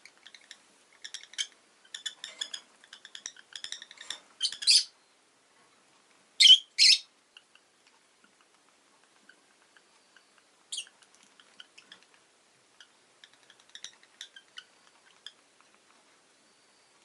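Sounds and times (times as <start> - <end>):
lovebirds chirping and clicking: 0.0 - 5.0, 6.4 - 16.1.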